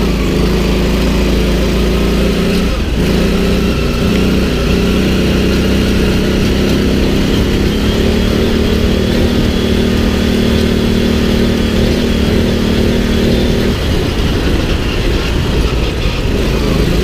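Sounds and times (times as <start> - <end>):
buggy engine driving on dirt: 0.0 - 17.0.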